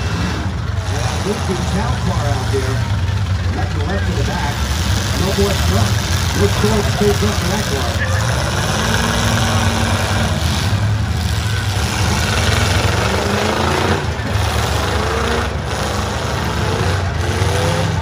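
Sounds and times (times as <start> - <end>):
car engines rumbling: 0.0 - 18.0
engines revving: 0.0 - 18.0.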